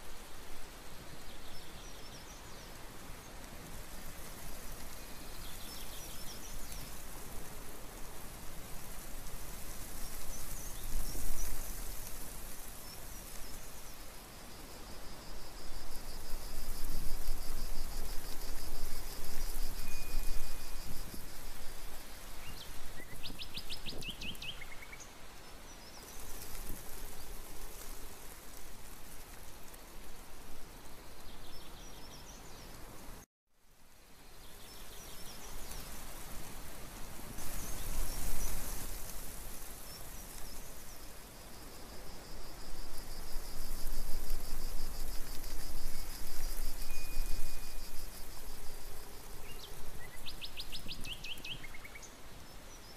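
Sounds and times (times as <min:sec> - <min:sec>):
steady outdoor hiss: 0:00.0 - 0:52.9.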